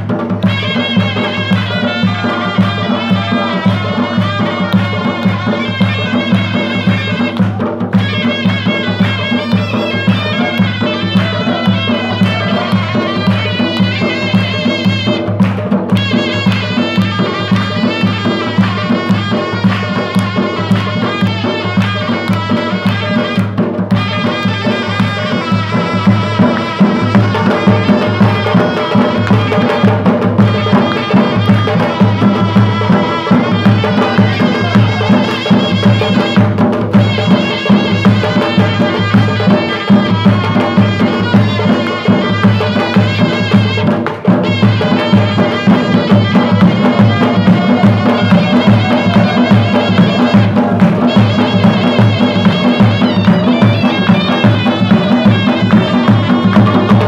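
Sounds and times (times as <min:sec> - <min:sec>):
dhol drum beating: 0:00.0 - 0:57.0.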